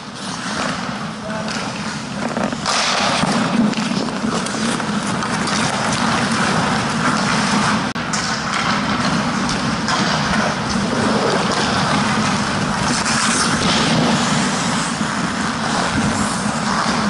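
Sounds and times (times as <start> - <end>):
skates and sticks on ice: 0.0 - 17.0.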